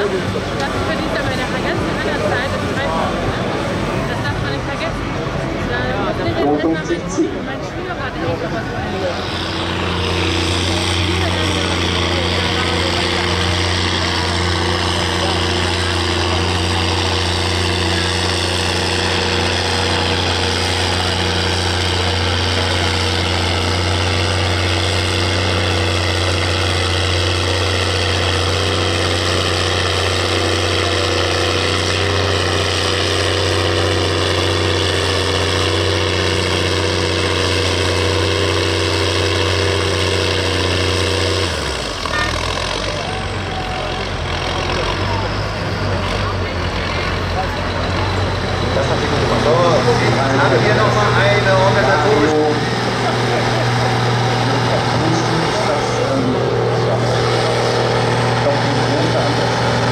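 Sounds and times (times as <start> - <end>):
tractor engine under full load: 0.0 - 59.9.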